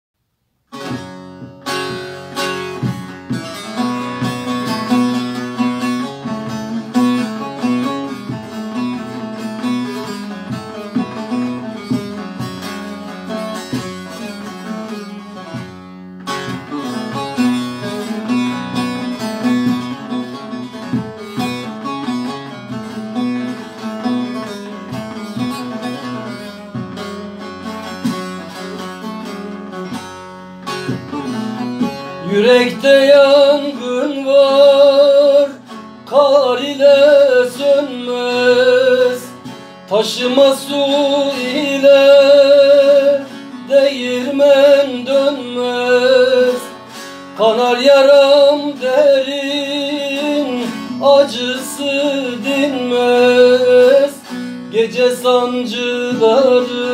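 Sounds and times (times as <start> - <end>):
plucked lutes playing melody: 0.7 - 56.9.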